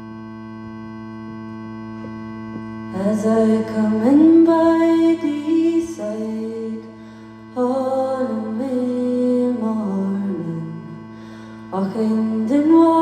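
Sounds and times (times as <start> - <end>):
gliding folk melody: 0.0 - 13.0
held drone: 0.0 - 13.0.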